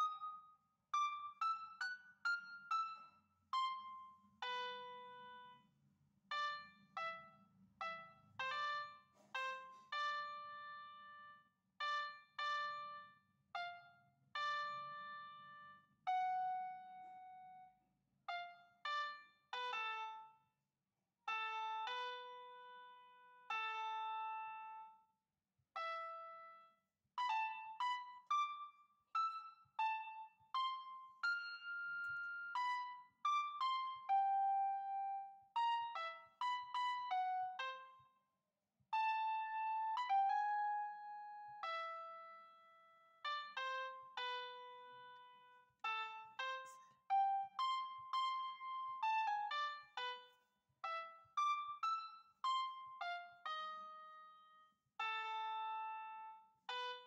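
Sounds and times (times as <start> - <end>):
slow keyboard melody: 0.0 - 20.5, 21.3 - 25.2, 25.8 - 38.1, 38.9 - 57.0.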